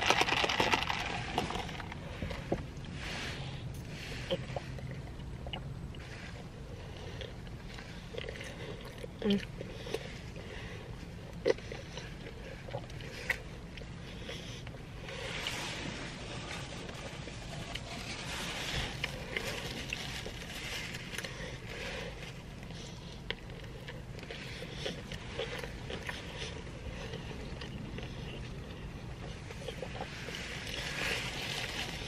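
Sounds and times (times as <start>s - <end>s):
low car cabin rumble: 0.0s - 32.0s
person chewing sandwich: 0.0s - 32.0s.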